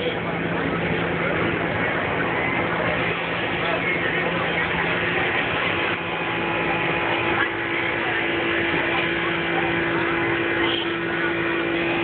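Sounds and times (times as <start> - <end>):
crowd voices mingling: 0.0 - 12.0
low steady hum: 0.0 - 12.0.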